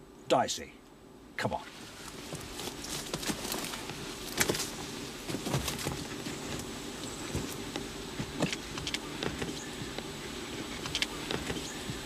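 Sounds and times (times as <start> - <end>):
low hum: 0.0 - 12.0
footsteps on dirt and stone: 1.8 - 12.0.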